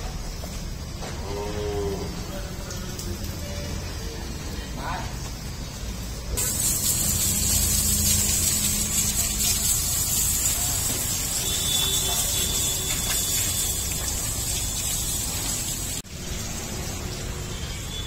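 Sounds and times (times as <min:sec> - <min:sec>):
hose water spraying: 0:00.0 - 0:18.0.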